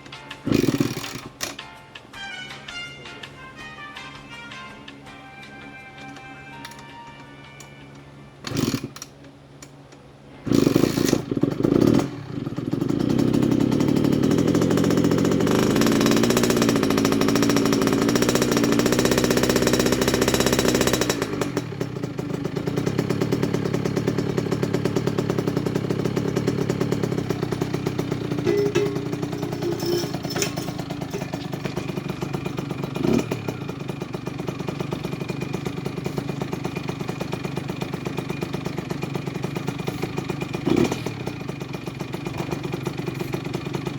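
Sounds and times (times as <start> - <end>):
two-stroke engine idling: 0.0 - 1.6, 8.3 - 43.9.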